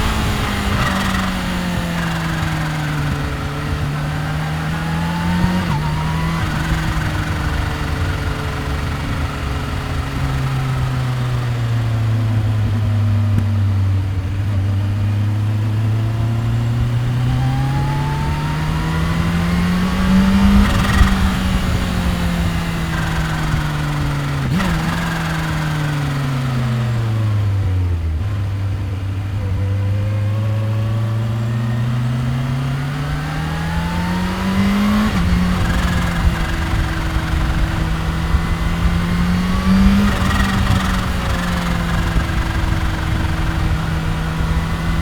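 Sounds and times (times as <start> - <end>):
motorcycle engine running: 0.0 - 45.0
road noise: 0.0 - 45.0
wind noise: 0.0 - 45.0.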